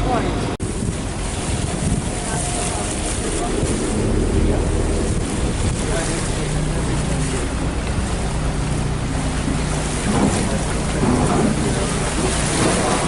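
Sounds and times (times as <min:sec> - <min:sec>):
ferry engine droning: 0:00.0 - 0:13.0
water wash: 0:00.0 - 0:13.0
wind buffeting microphone: 0:00.4 - 0:13.0.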